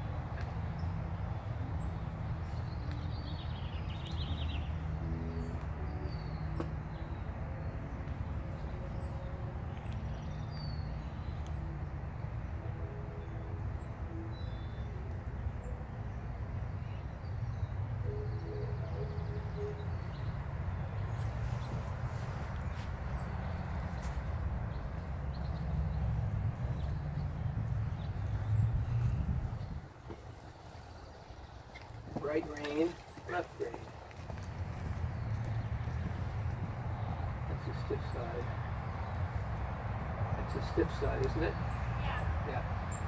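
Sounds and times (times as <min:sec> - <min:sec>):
small birds chirping: 0:00.8 - 0:07.3, 0:08.0 - 0:11.7, 0:13.2 - 0:43.0.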